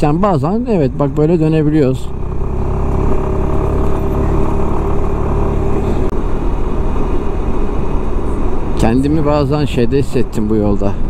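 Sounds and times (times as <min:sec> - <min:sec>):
scooter engine droning: 0:00.1 - 0:10.2.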